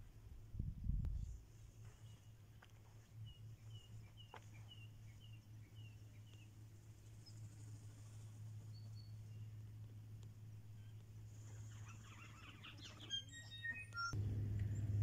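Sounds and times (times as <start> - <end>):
low steady hum: 0.0 - 15.0
faint bird chirps: 1.8 - 9.6, 10.6 - 14.9.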